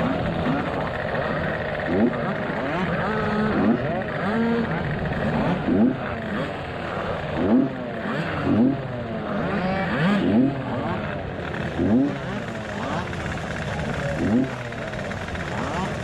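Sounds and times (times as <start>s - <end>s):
scooter engines idling: 0.0s - 16.0s
scooter engines revving: 0.0s - 16.0s.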